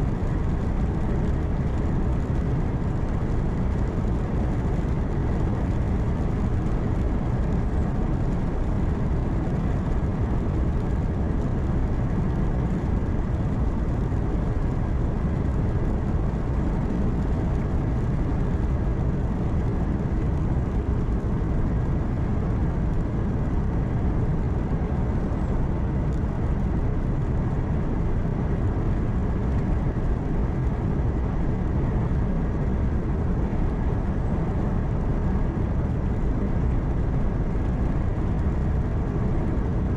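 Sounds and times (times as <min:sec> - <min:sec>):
truck engine and tyre drone: 0:00.0 - 0:39.9.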